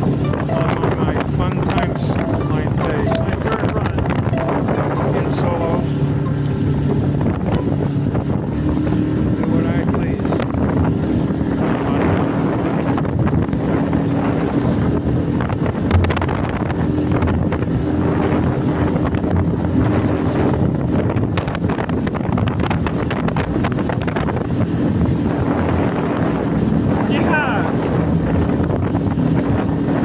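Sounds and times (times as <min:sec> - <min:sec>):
outboard motor running: 0:00.0 - 0:30.0
water slapping hull: 0:00.0 - 0:30.0
wind buffeting microphone: 0:00.0 - 0:30.0.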